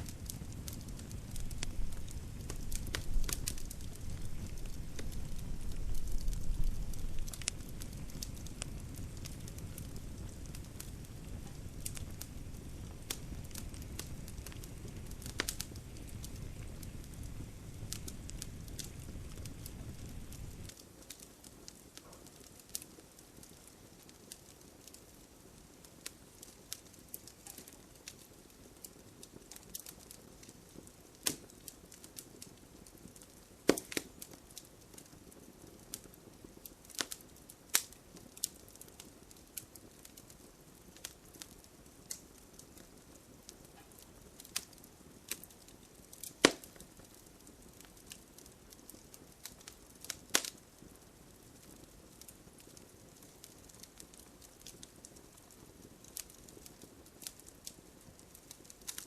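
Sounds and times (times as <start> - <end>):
low hiss: 0.0 - 59.0
wood fire crackling: 0.0 - 59.0.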